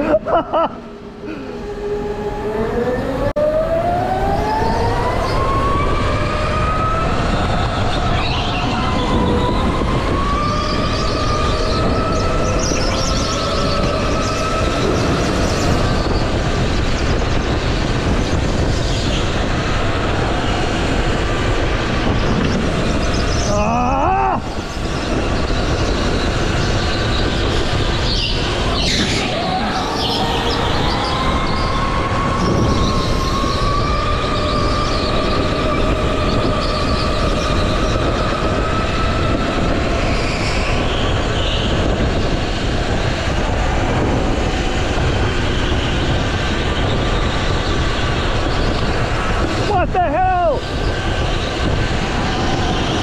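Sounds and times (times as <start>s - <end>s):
go-kart engine rumble and whine: 0.0s - 53.0s.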